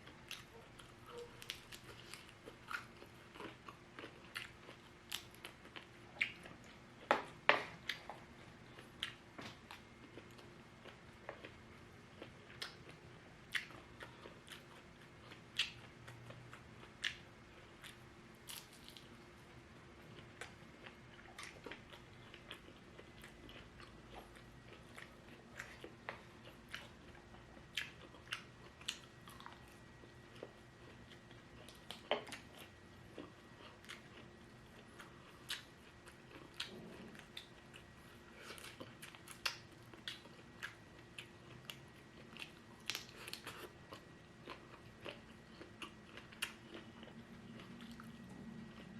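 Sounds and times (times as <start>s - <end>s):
faint steady hum: 0.0s - 48.9s
person chewing crunchy food: 0.0s - 48.9s.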